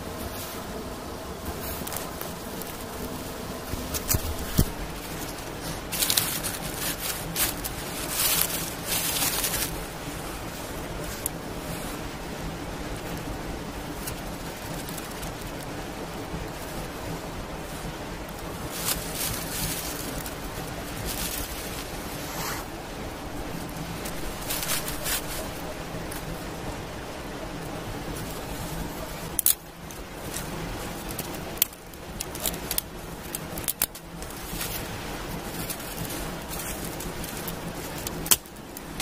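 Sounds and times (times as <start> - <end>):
steady fire hiss: 0.0 - 39.0
dry twigs snapping and rustling: 1.4 - 12.0, 12.7 - 22.2, 23.2 - 39.0.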